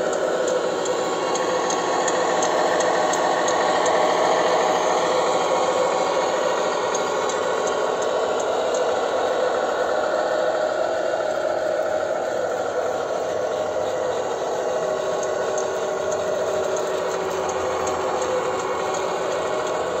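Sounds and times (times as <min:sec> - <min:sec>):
toy truck motor whirring: 0:00.0 - 0:20.0.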